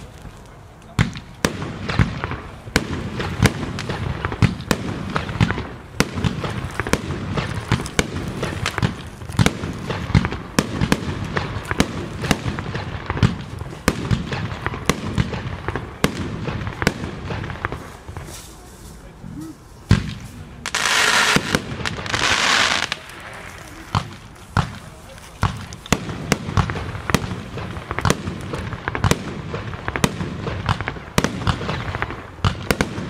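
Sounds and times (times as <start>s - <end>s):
firework bangs: 0.0s - 18.7s, 19.8s - 33.0s
firework crackling: 0.0s - 33.0s.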